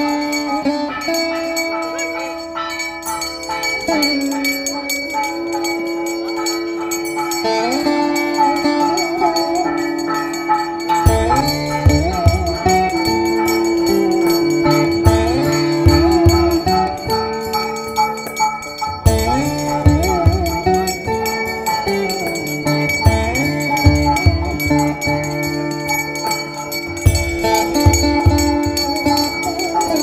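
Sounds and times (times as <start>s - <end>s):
sliding instrumental melody: 0.0s - 30.0s.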